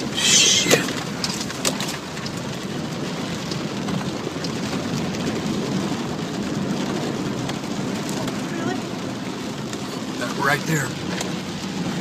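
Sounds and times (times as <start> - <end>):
rain and floodwater rushing: 0.0 - 12.0.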